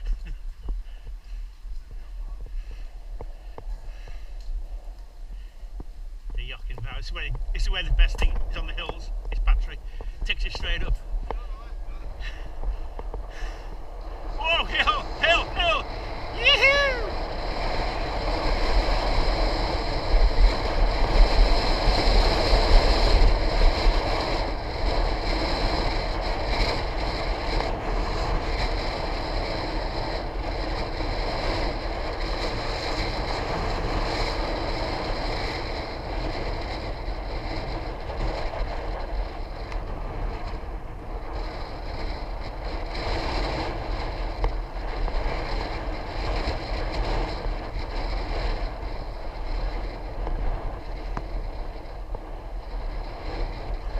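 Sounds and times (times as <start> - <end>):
low rumble: 0.0 - 53.9
wind rushing over microphone: 0.0 - 53.9.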